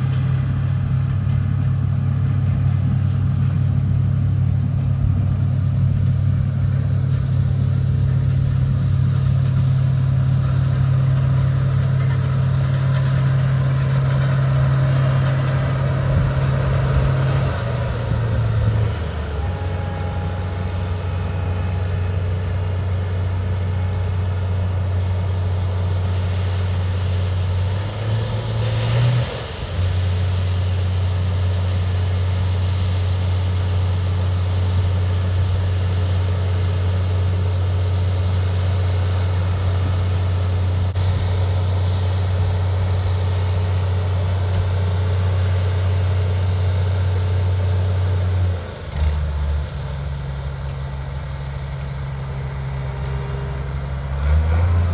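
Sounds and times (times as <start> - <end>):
vehicle engine droning: 0.0 - 54.9.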